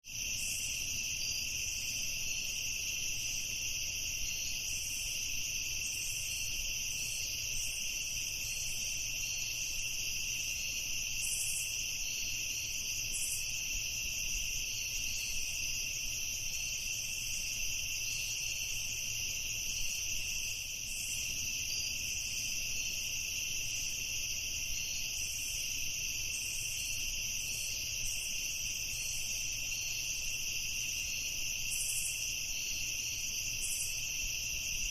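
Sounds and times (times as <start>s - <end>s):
crickets chirping: 0.1s - 34.9s.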